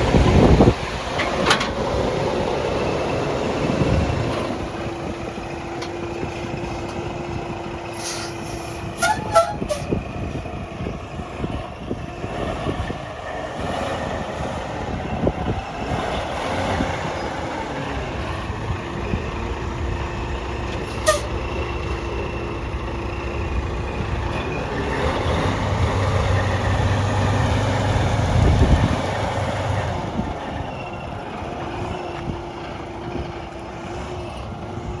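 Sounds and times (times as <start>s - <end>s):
diesel truck engine running: 0.0s - 35.0s.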